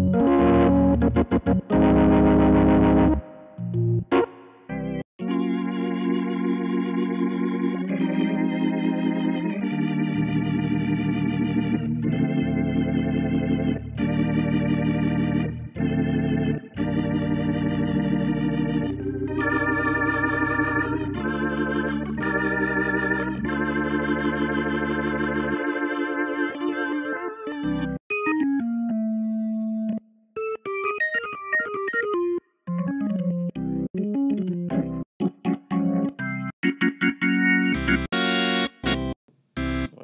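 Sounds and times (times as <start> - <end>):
organ chords with vibrato: 0.0 - 29.9, 33.6 - 40.0.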